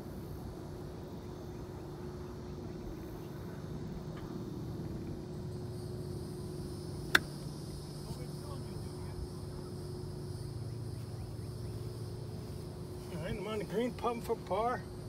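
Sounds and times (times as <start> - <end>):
distant engine hum: 0.0 - 15.0.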